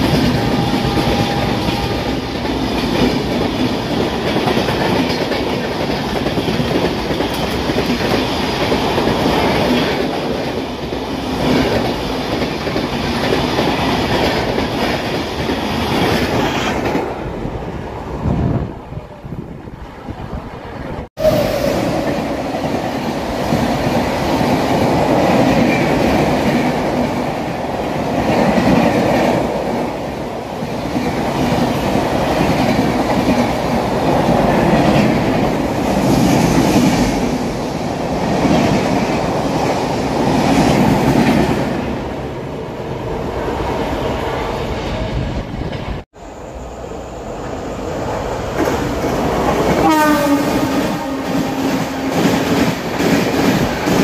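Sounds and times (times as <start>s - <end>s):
approaching train: 0.0s - 54.0s
train coaches rumbling past: 0.0s - 54.0s.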